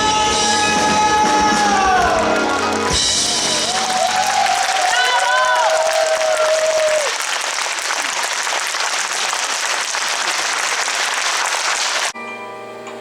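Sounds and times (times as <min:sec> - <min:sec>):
audience applauding: 0:00.6 - 0:12.2.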